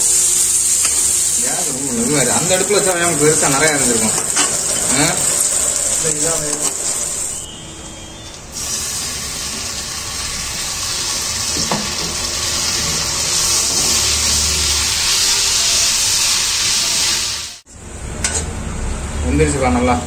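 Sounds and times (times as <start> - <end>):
food sizzling in hot oil: 0.0 - 17.7.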